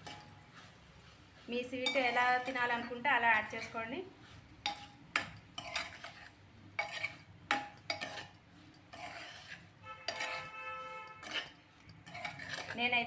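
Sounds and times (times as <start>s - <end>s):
spoon clinking pot sides: 0.0s - 0.4s, 1.6s - 3.8s, 4.5s - 13.0s
metal spoon scraping pot: 0.0s - 13.0s.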